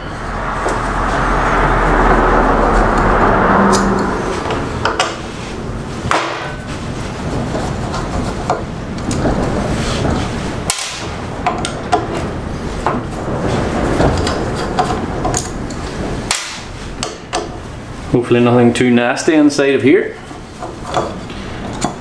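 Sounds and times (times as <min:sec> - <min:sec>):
wind gusting: 0:00.0 - 0:18.3.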